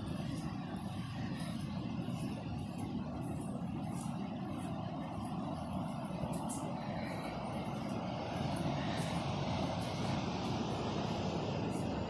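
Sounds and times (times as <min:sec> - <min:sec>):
ocean surf low rumble: 0:00.0 - 0:12.0.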